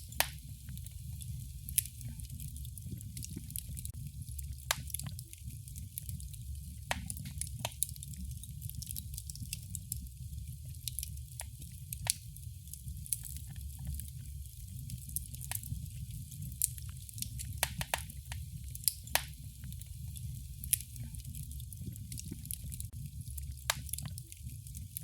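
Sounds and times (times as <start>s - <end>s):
low rumble and hiss of burning: 0.0s - 25.0s
wood fire crackling: 0.0s - 25.0s.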